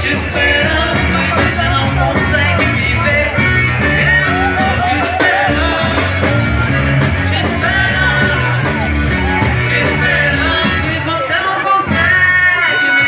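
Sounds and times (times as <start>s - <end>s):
accordion: 0.0s - 13.0s
bass line: 0.0s - 13.0s
drums: 0.0s - 13.0s
electric guitar: 0.0s - 13.0s.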